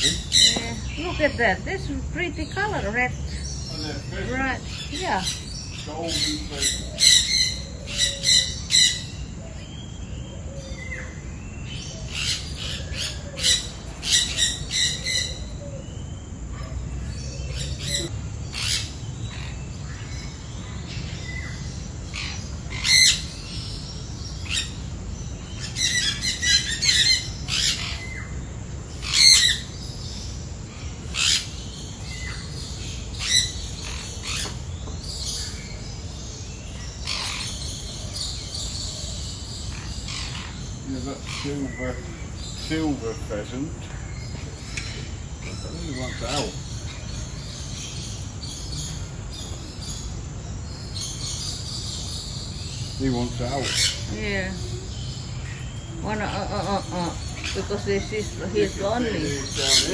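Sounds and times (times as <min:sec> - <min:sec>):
birds calling sharply: 0:00.0 - 0:59.9.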